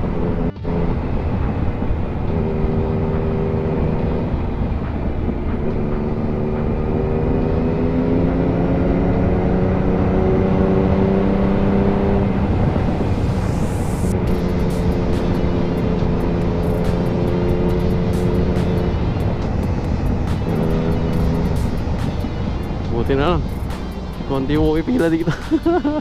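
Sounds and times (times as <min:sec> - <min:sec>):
motorcycle engine running: 0:00.0 - 0:26.0
wind noise: 0:00.0 - 0:26.0.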